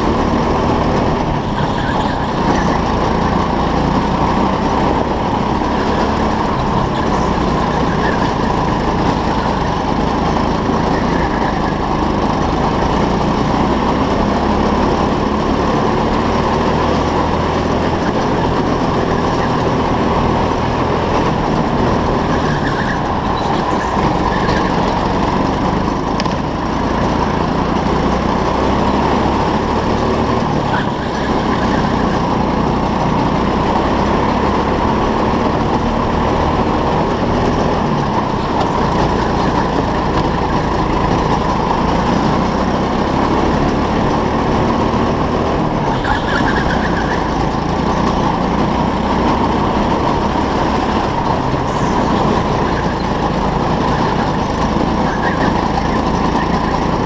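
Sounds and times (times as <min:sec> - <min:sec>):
go-kart motor running: 0:00.0 - 0:57.0.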